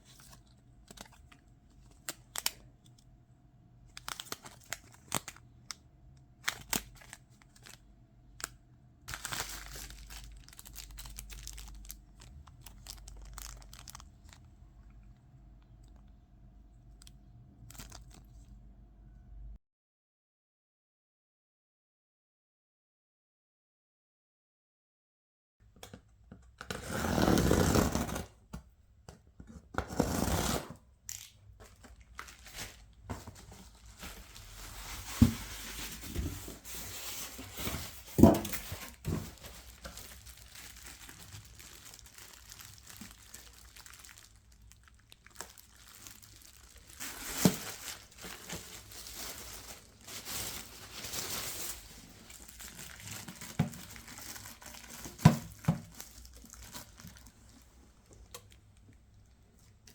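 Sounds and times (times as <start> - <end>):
packaging crinkling and tearing: 0.0 - 3.1, 3.9 - 16.1, 16.9 - 18.5, 26.7 - 28.3, 29.9 - 59.9.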